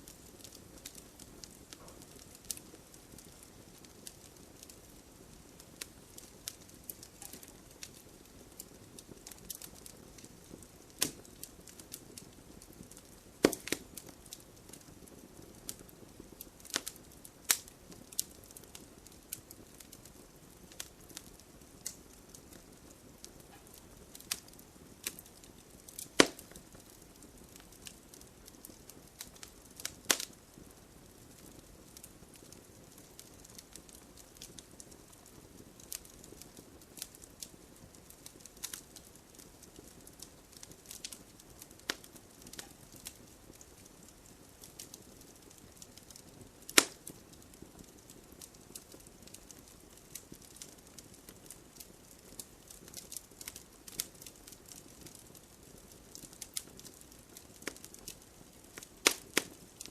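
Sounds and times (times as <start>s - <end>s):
low hiss of burning: 0.0s - 59.9s
wood fire crackling: 0.0s - 59.9s.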